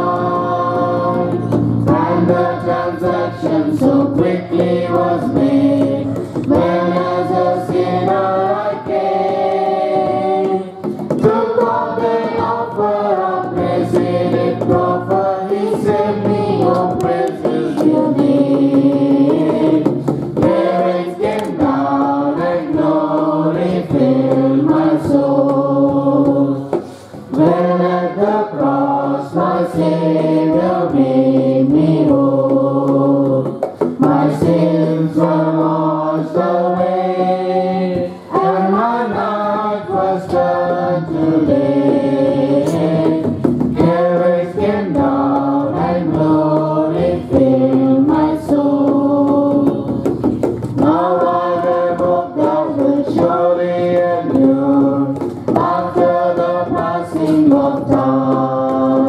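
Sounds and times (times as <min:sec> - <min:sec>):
voices singing a gospel song: 0:00.0 - 0:59.0.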